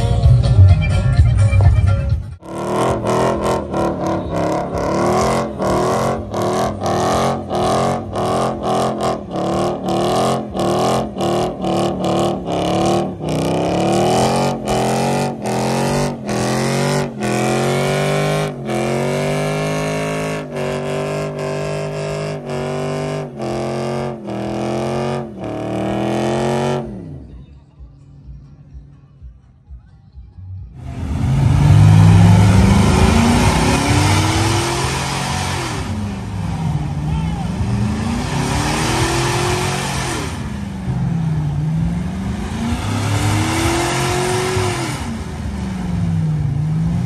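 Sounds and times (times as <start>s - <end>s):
car engine revving: 2.4s - 27.5s, 30.6s - 47.0s.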